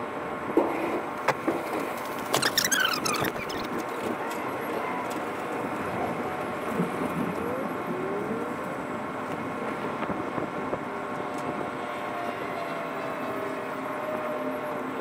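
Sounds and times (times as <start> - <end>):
steady engine noise: 0.0 - 15.0.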